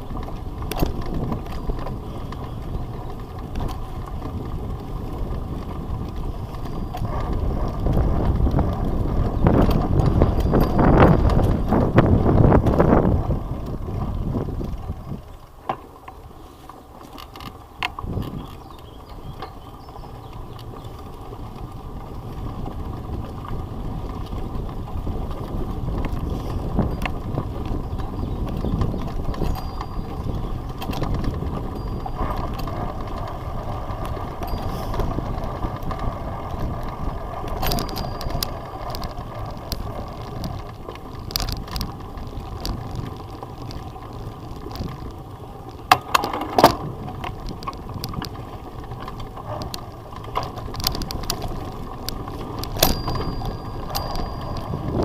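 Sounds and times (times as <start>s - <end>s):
bicycle rattles and clicks: 0.0s - 55.0s
bicycle tyres rumbling on rough ground: 0.0s - 55.0s.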